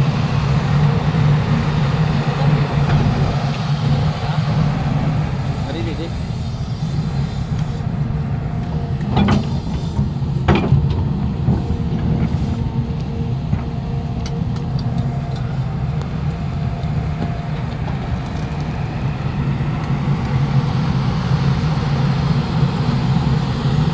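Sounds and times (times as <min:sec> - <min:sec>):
vehicle engine rumble: 0:00.0 - 0:23.9.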